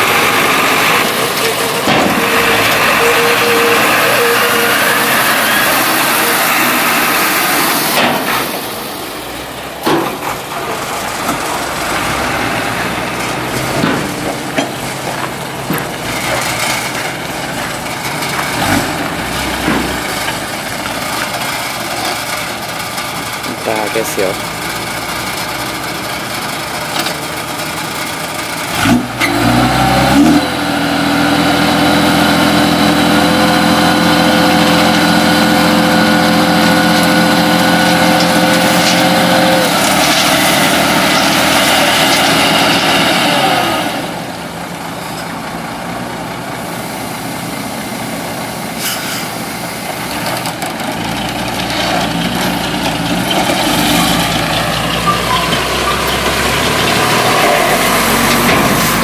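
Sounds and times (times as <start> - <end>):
truck diesel engine revving: 0.0 - 59.0.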